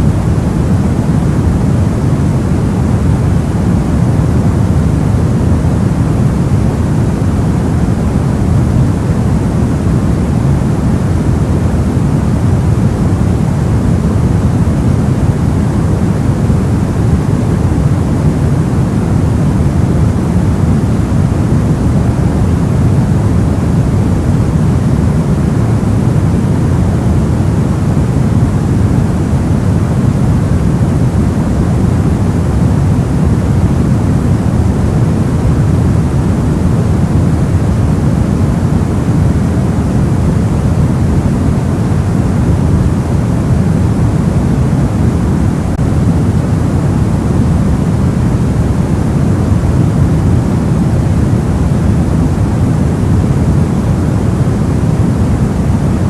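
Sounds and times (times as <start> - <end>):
deep low rumbling noise: 0.0 - 56.0.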